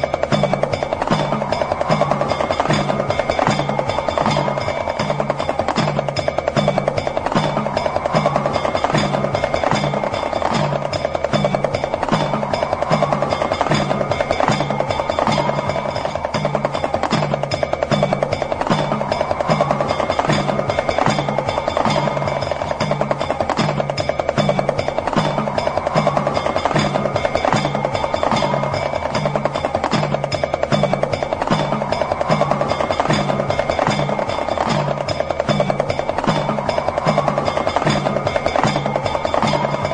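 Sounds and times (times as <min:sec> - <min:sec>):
small hand drum rattling roll: 0:00.0 - 0:39.9.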